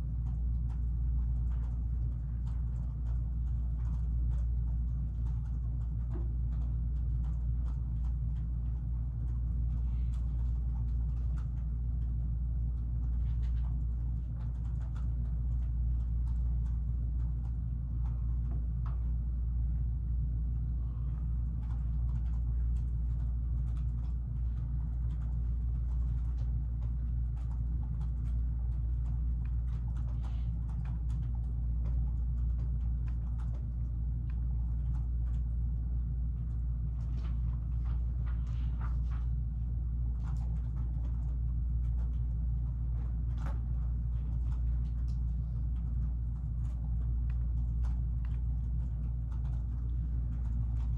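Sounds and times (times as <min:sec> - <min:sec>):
low background hum: 0:00.0 - 0:50.9.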